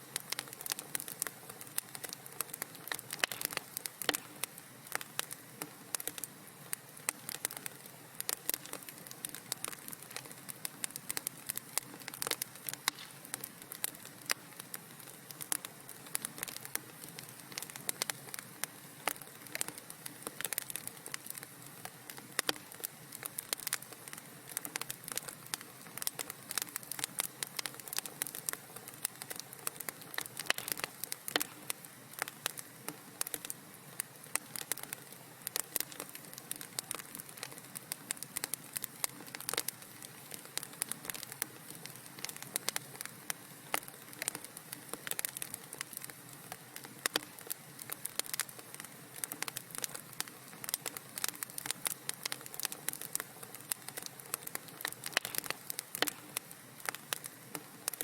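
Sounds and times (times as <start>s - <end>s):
fire hissing: 0.0s - 58.0s
wood fire popping and snapping: 0.0s - 58.0s.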